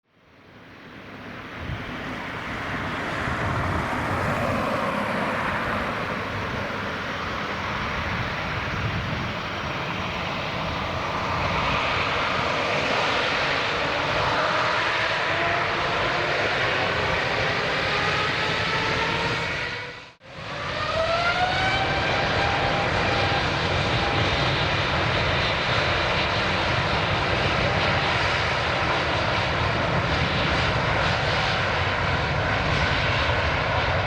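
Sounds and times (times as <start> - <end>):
jet engine roar with whine: 0.1 - 34.0.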